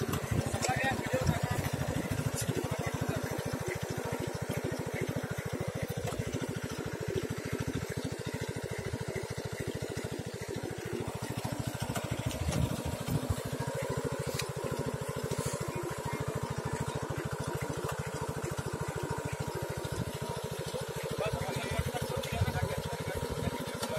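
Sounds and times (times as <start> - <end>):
small engine running: 0.0 - 23.9.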